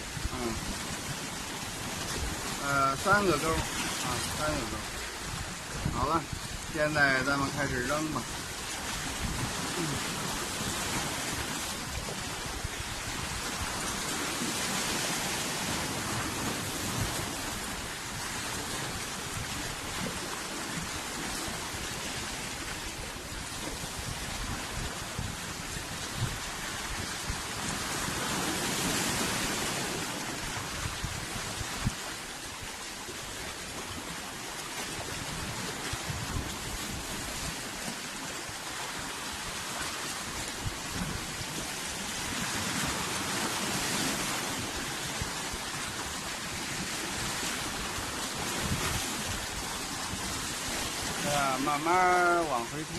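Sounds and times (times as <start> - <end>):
sea waves washing: 0.0 - 52.9.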